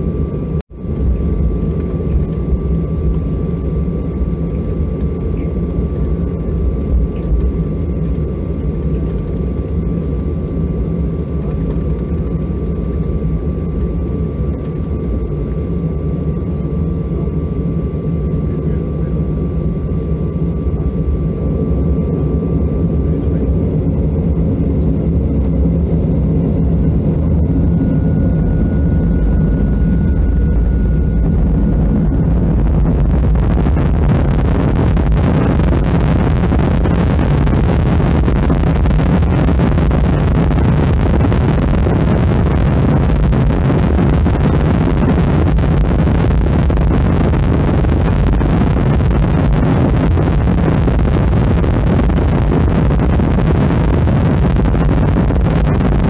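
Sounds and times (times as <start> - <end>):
jet engines heard from cabin: 0.0 - 56.0.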